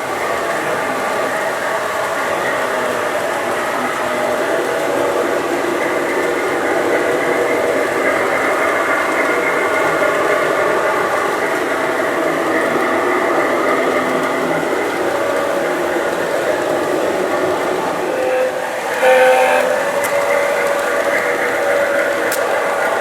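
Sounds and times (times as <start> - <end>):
model train whirring: 0.0 - 23.0.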